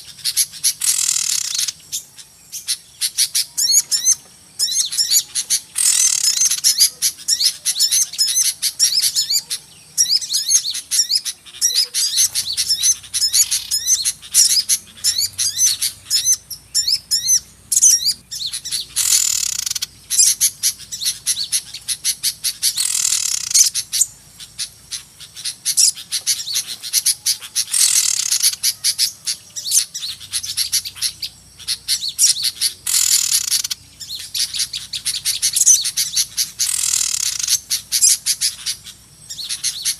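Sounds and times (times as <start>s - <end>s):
flock of small birds chirping: 0.0s - 39.9s
harsh rasping bird call: 0.0s - 39.9s.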